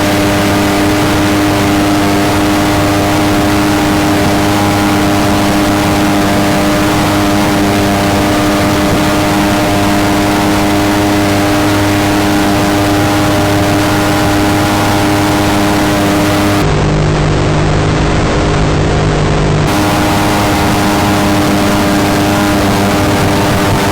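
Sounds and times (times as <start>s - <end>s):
boat engine humming: 0.0s - 23.9s
water rushing: 0.0s - 23.9s.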